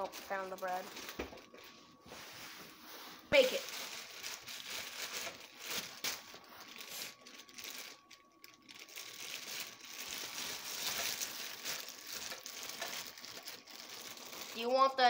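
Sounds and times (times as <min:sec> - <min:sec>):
plastic bag crinkling: 0:00.0 - 0:02.0, 0:03.2 - 0:15.0.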